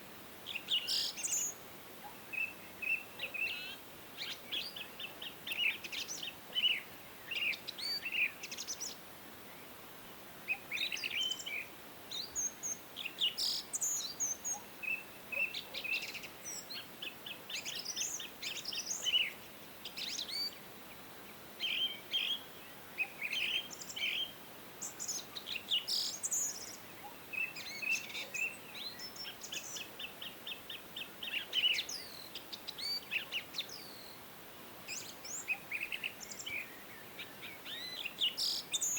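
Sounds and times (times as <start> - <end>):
faint steady background noise: 0.0 - 38.9.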